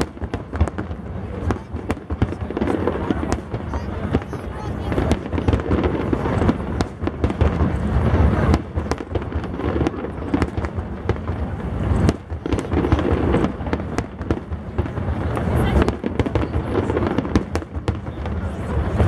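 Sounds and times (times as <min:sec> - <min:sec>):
fireworks popping and cracking: 0:00.0 - 0:19.0.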